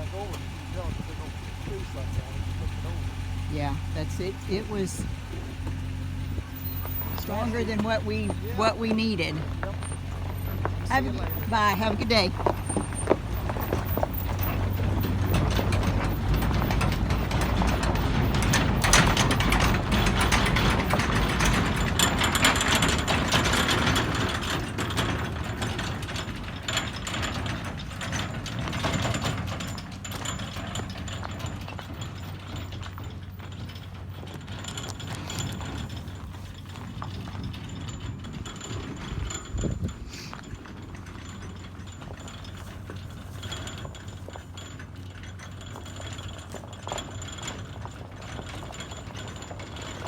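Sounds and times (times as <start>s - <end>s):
mechanical rattling: 0.0s - 50.0s
vehicle running slowly: 0.0s - 50.0s.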